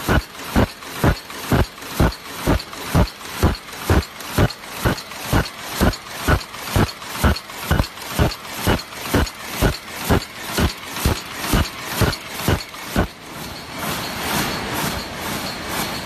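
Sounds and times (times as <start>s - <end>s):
machine heavy rhythmic strokes: 0.0s - 16.0s.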